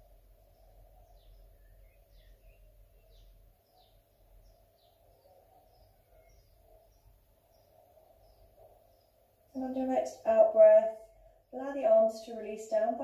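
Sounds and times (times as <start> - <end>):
bird chirping: 0.0 - 12.9.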